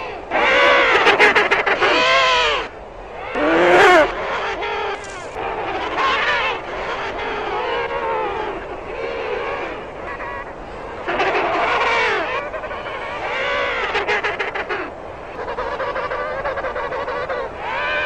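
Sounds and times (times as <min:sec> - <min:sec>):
penguin braying calls: 0:00.3 - 0:18.0.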